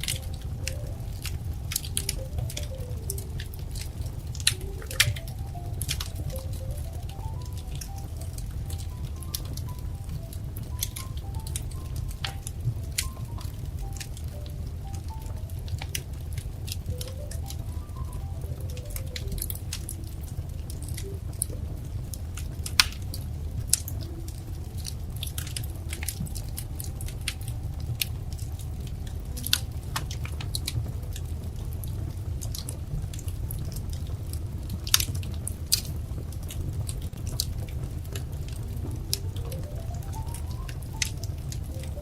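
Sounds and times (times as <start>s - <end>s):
low steady rumble: 0.0s - 42.0s
sharp fire pops: 0.0s - 42.0s
wood fire crackling: 0.0s - 42.0s.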